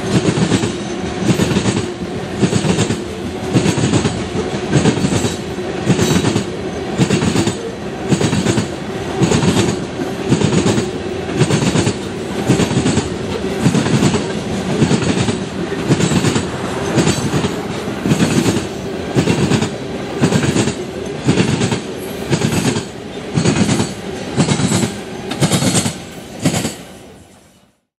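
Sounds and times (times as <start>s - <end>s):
train wheels clacking over rail joints: 0.0s - 27.1s
train rolling noise: 0.0s - 27.8s.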